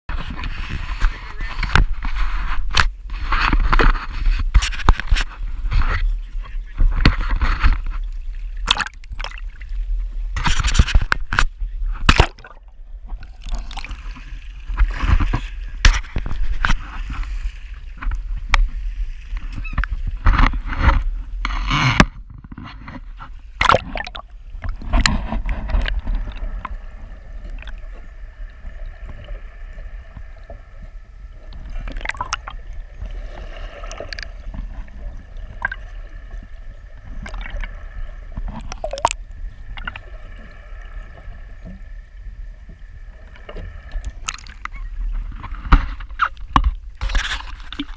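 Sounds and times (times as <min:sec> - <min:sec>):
underwater hum: 0:00.1 - 0:47.9
water splashing and gurgling: 0:00.1 - 0:47.9.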